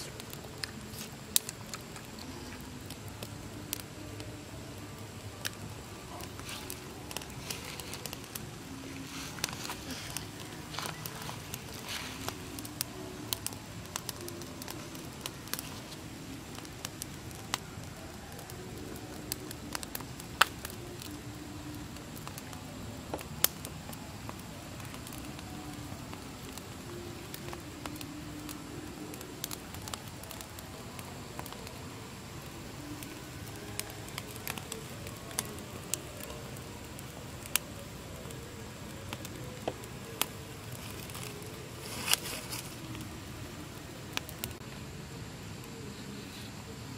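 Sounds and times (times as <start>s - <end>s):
twig fire crackling and popping: 0.0s - 46.9s.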